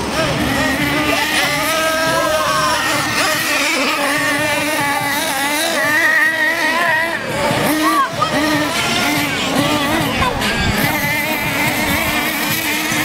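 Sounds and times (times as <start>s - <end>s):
model car motors whining: 0.0s - 13.0s.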